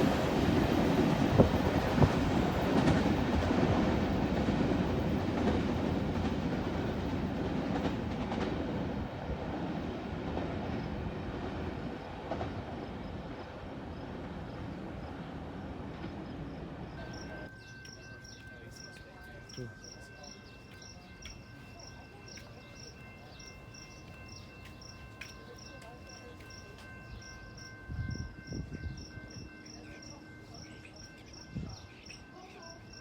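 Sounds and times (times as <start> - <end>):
train wheels clattering on rails: 0.0 - 15.3, 15.9 - 33.0.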